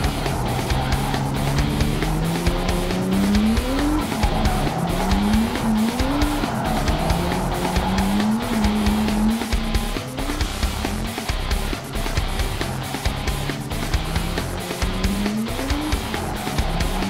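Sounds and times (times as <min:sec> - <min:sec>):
background music: 0:00.0 - 0:17.0
car engine revving: 0:00.0 - 0:17.0.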